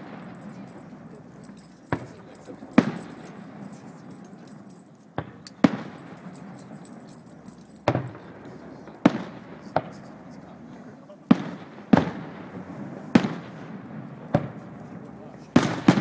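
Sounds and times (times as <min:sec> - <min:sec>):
fireworks bursting with echo: 0:00.0 - 0:16.0.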